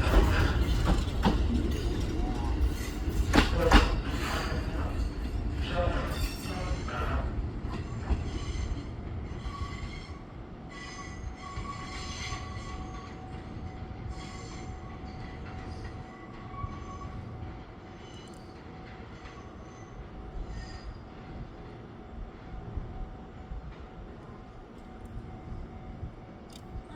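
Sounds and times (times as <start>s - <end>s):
electric train rumbling on rails: 0.0s - 26.9s.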